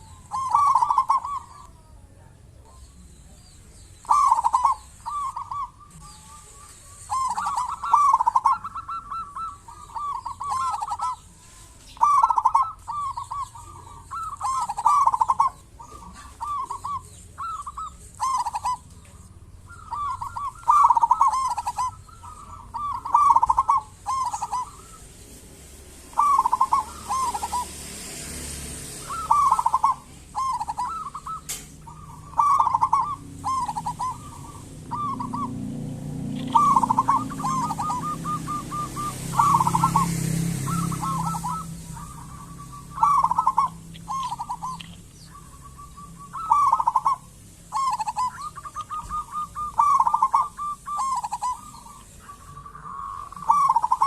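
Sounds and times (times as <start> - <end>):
dove cooing: 0.0 - 25.3, 26.1 - 54.0.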